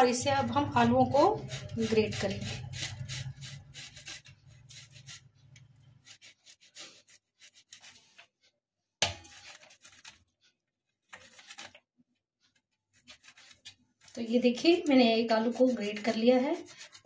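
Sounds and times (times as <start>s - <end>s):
potato grating on metal grater: 0.0s - 8.2s, 9.1s - 11.8s, 12.9s - 17.0s.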